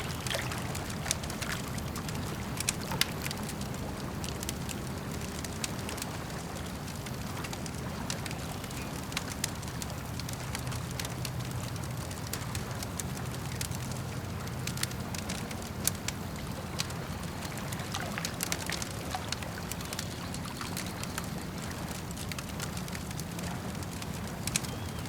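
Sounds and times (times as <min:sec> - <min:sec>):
campfire crackling and popping: 0:00.0 - 0:25.0
low rumble of lake water: 0:00.0 - 0:25.0.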